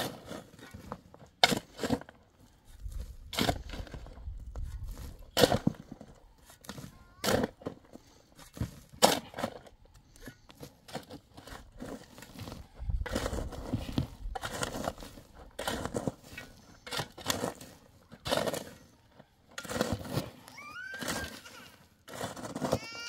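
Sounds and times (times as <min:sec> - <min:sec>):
scraping: 0:00.0 - 0:23.0.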